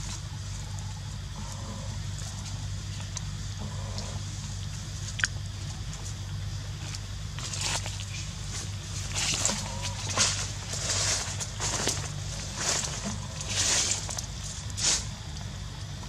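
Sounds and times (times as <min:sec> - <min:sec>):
dry leaves crackling underfoot: 0:00.0 - 0:16.0
low hum: 0:00.0 - 0:16.0.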